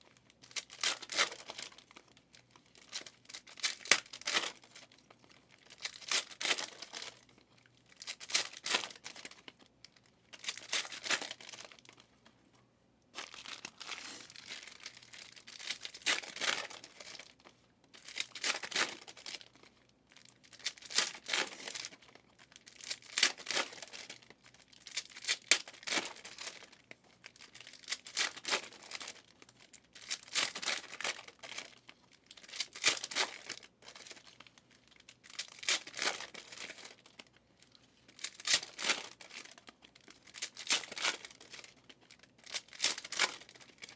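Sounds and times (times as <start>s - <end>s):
foil wrappers tearing and crinkling: 0.4s - 1.9s, 2.7s - 4.9s, 5.6s - 7.3s, 8.0s - 9.5s, 10.4s - 12.0s, 13.2s - 17.4s, 18.0s - 19.5s, 20.3s - 37.3s, 38.1s - 43.9s.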